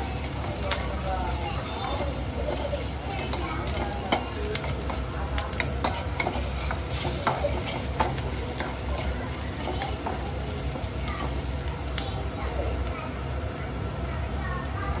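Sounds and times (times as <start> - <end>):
spatula scraping and tapping pan: 0.0 - 12.1
noodles sizzling in a pan: 0.0 - 15.0.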